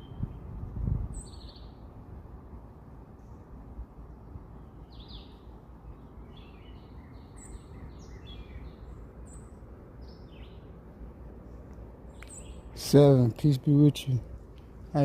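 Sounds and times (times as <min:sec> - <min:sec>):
low outdoor rumble: 0:00.0 - 0:15.0
songbirds chirping: 0:00.0 - 0:15.0.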